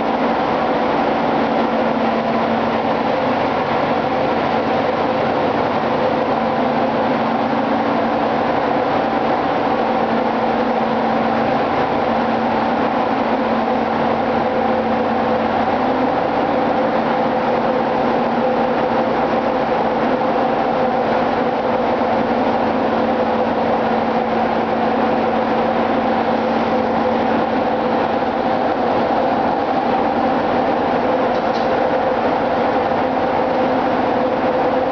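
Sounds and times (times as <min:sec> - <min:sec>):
engine-room machinery drone: 0:00.0 - 0:34.9.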